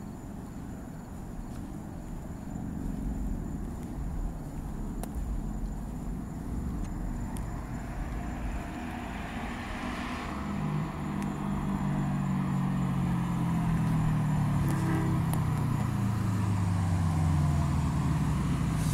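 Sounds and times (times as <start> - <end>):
loud car exhaust: 2.7 - 18.9.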